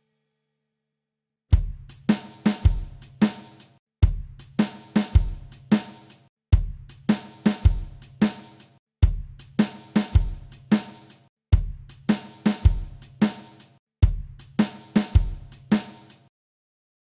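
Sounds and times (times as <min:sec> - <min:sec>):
background music with drum beat: 0:01.5 - 0:16.3.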